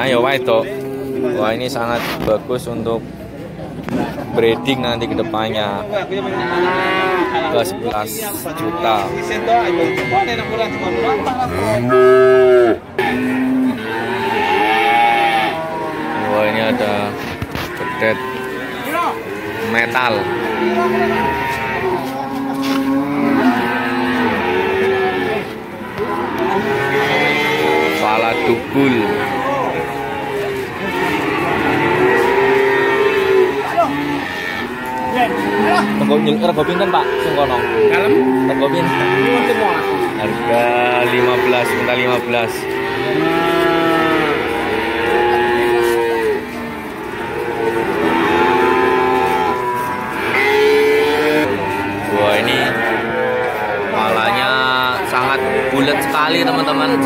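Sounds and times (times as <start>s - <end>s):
calves mooing: 6.2s - 57.0s.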